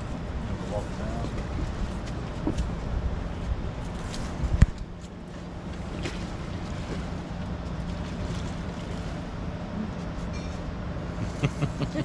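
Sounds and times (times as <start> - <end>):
wind buffeting microphone: 0.0 - 10.1
low machine hum: 0.0 - 12.0.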